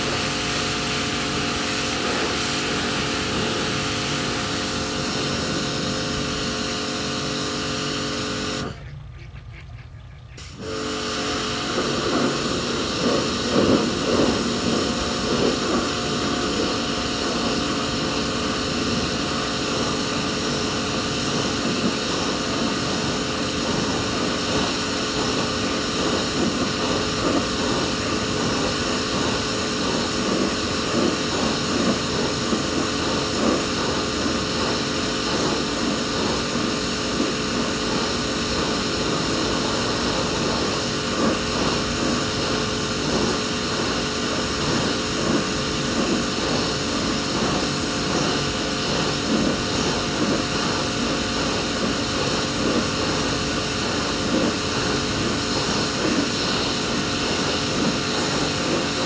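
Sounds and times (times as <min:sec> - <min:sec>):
water jet hissing: 0:00.0 - 0:08.8, 0:10.4 - 0:59.0
pressure washer pump humming: 0:00.0 - 0:09.0, 0:10.4 - 0:59.0.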